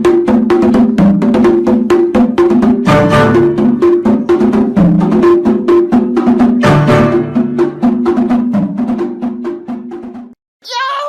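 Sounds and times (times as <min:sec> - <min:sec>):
music with clicking beat and bass: 0:00.0 - 0:10.4.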